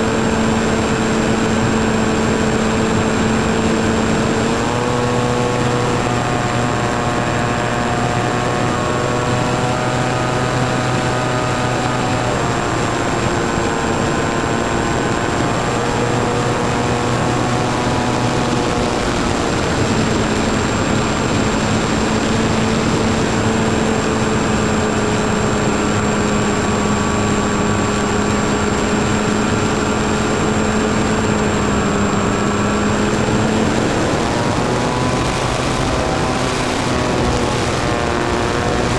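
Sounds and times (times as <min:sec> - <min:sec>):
model airplane motor humming: 0:00.0 - 0:38.9
wind rushing: 0:00.0 - 0:38.9.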